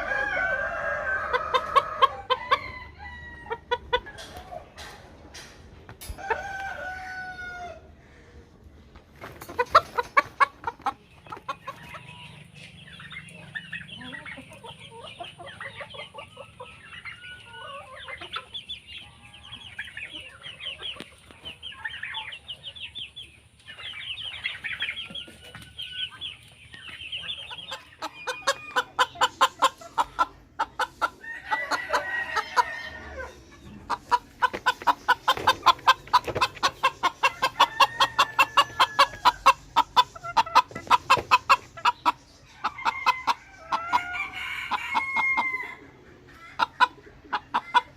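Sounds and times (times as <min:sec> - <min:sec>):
chickens clucking: 0:00.0 - 0:47.9.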